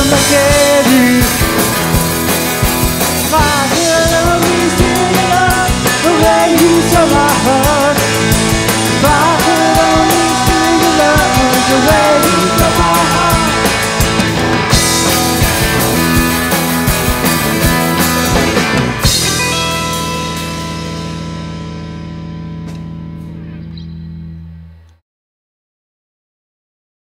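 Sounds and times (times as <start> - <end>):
rock band playing live: 0.0 - 24.2.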